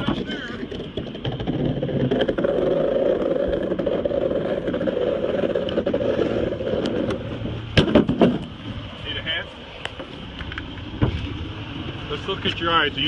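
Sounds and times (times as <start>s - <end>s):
loud engine noise: 0.0s - 13.0s.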